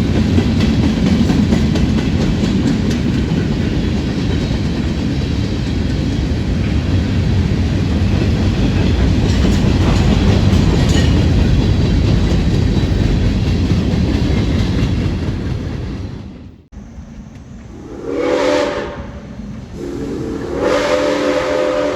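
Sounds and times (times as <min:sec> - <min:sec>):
train rumbling and clattering: 0:00.0 - 0:21.9.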